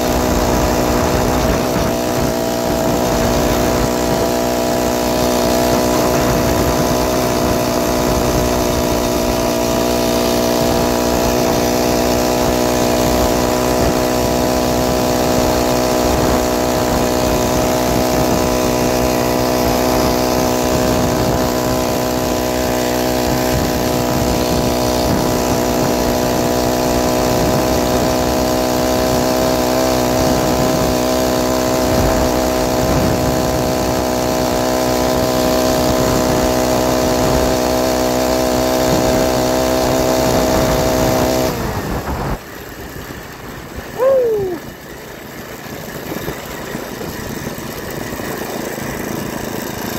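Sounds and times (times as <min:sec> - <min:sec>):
small motorbike engine running: 0:00.0 - 0:49.9.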